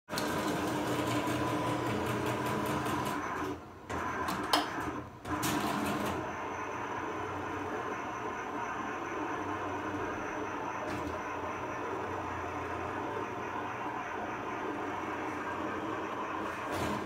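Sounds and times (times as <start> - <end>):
cutting plotter motors whirring: 0.1 - 17.0.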